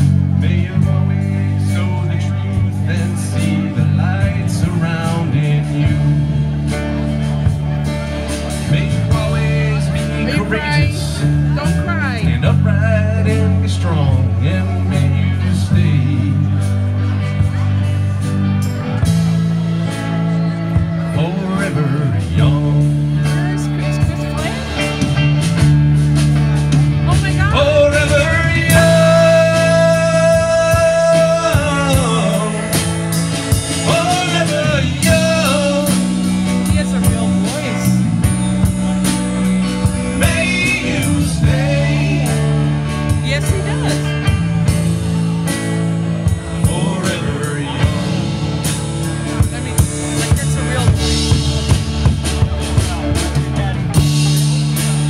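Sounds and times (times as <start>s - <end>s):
guitar lead with bending notes: 0.0s - 55.0s
live rock band playing: 0.0s - 55.0s.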